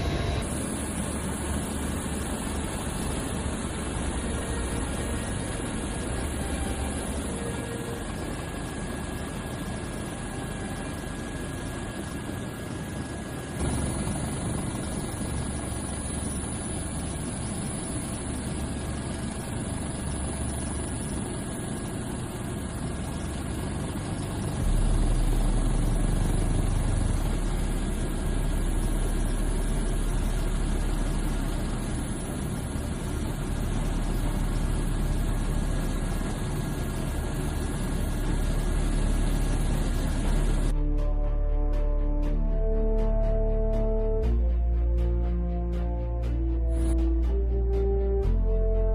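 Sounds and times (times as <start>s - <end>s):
aircraft engine drone: 0.0s - 48.9s.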